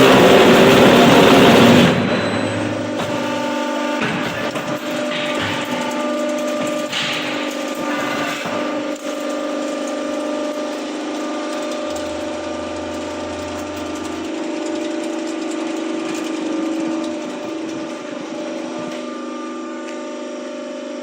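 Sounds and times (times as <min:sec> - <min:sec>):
block making machine running: 0:00.0 - 0:21.0.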